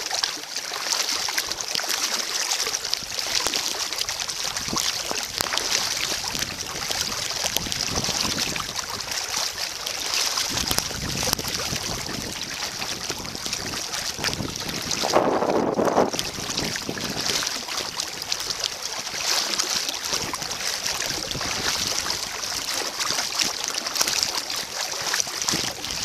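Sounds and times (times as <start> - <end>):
water splashing around kayak: 0.0 - 26.0
wind buffeting microphone: 3.0 - 19.2, 20.0 - 23.5, 24.1 - 26.0.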